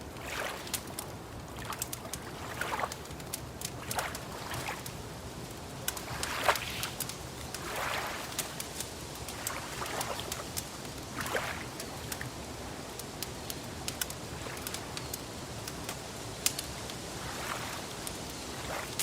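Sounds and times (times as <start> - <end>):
wood fire crackling: 0.0 - 19.0
lake water lapping: 0.1 - 12.8, 13.9 - 15.0, 17.0 - 19.0.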